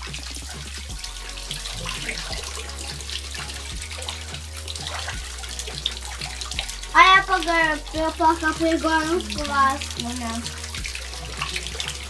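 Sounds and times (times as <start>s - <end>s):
shower water running: 0.0s - 12.0s.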